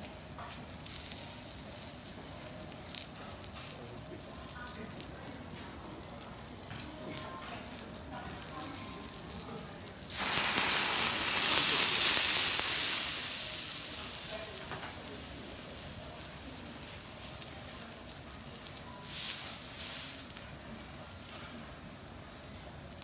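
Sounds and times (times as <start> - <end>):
steak sizzling on a griddle: 0.0 - 21.6, 22.2 - 23.0.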